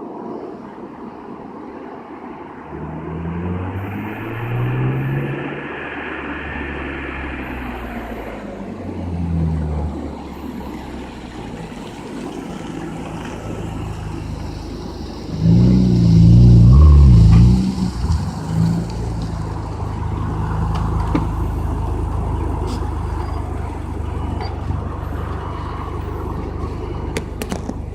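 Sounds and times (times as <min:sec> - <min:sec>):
car engine idling and revving: 0:02.3 - 0:27.9.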